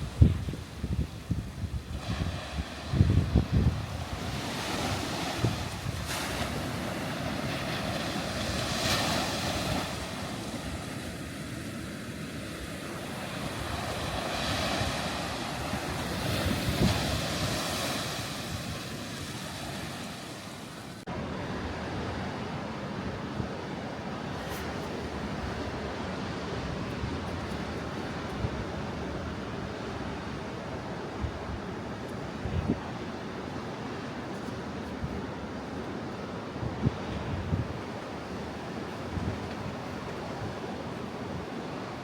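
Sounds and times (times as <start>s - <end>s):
wind buffeting microphone: 0.0s - 20.2s, 24.2s - 42.0s
surf breaking on beach: 0.0s - 42.0s.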